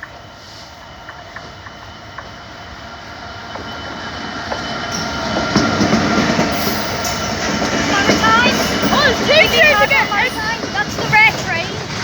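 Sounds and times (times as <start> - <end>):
freight train rumble and wheels: 0.0 - 12.0.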